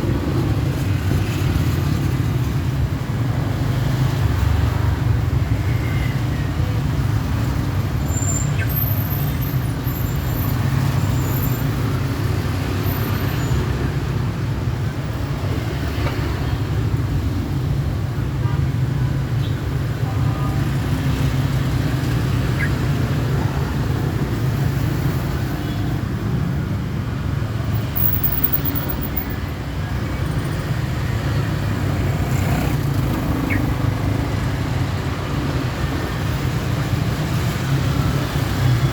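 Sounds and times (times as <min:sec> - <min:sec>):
low rumble of road traffic: 0:00.0 - 0:38.9.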